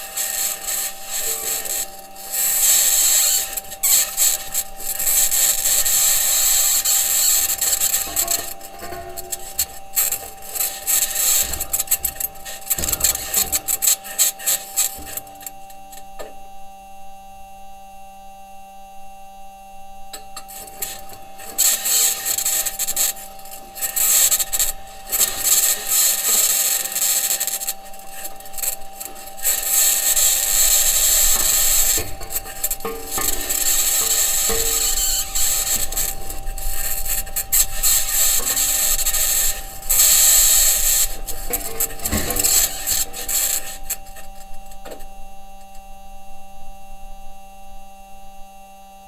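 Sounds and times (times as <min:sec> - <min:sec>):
rover wheels scraping and grinding: 0:00.0 - 0:16.4, 0:20.2 - 0:45.9
faint hum: 0:00.0 - 0:49.0
steady whine: 0:00.0 - 0:49.0.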